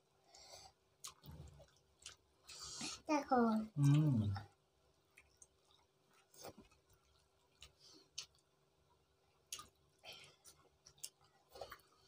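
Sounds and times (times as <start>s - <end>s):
people eating by hand: 0.0s - 12.0s.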